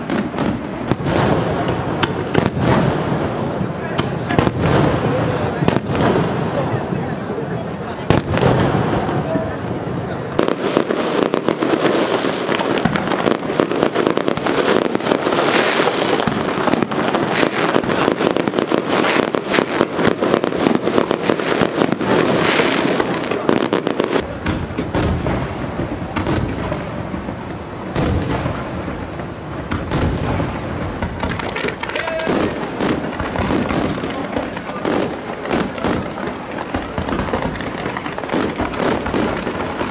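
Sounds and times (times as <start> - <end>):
firework shells booming: 0.0 - 39.9
fireworks crackling and popping: 0.0 - 39.9.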